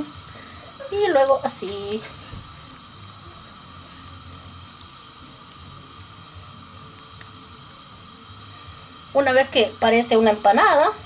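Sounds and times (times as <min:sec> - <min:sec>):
gas stove burner hiss: 0:00.0 - 0:11.0.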